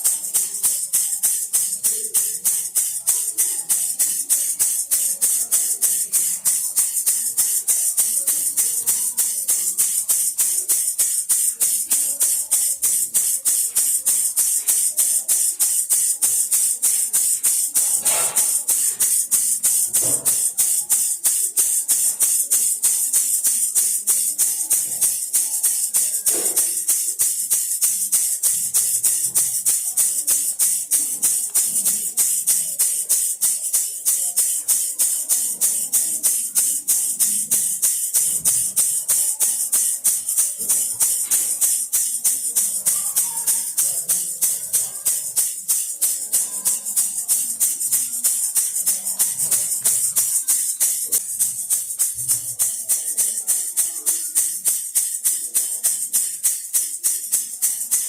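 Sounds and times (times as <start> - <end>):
baby rattle shaken: 0.0 - 58.0.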